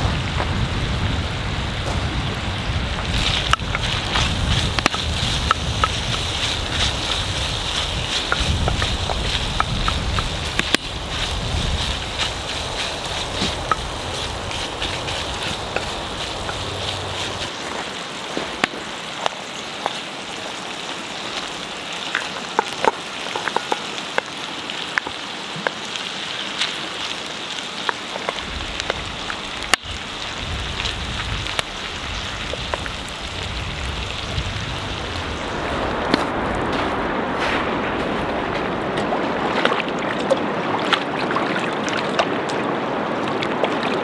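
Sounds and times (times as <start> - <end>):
meat sizzling and popping: 0.0 - 37.0
river rushing: 0.0 - 44.0.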